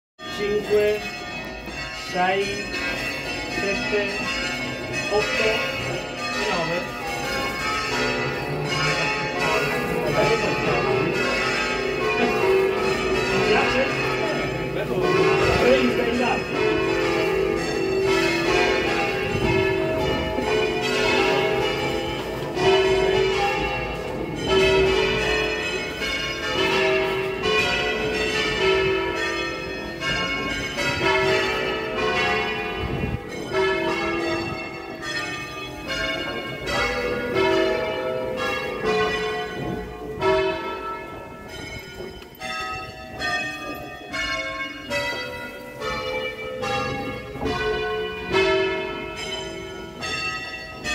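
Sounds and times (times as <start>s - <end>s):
church bells ringing: 0.2s - 50.9s.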